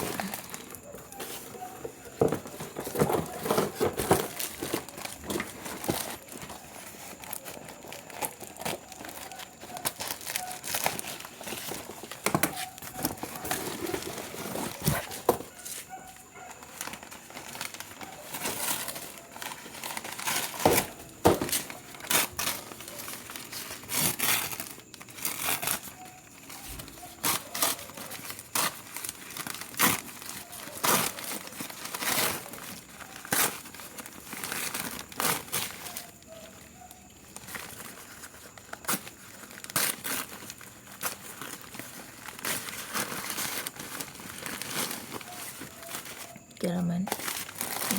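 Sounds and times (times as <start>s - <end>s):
packaging crinkling and ripping: 0.0s - 47.9s.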